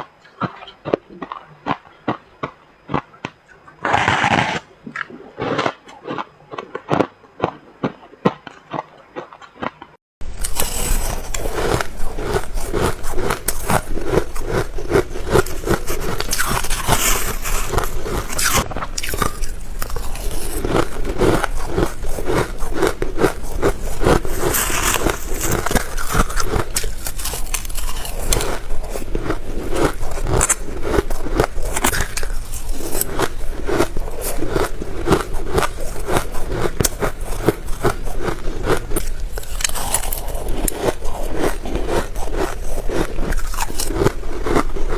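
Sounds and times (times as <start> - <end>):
frost being chewed crunching: 5.4 - 44.9.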